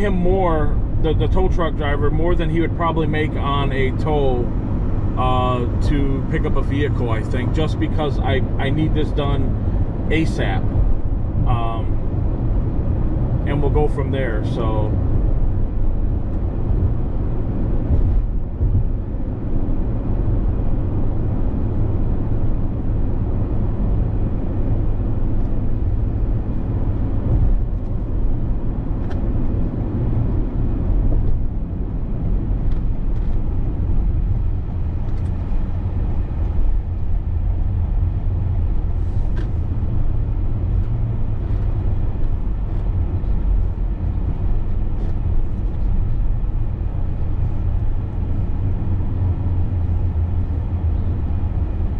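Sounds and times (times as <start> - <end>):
road noise: 0.0 - 51.9
vehicle engine rumble: 0.0 - 51.9.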